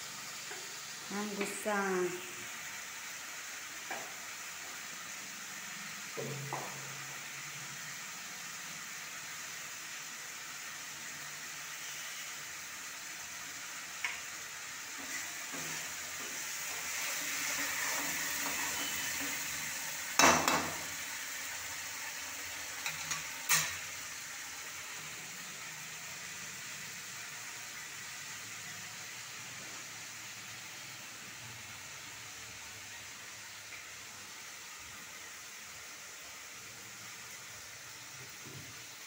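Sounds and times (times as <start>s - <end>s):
sauce sizzling in oil: 0.0s - 39.0s.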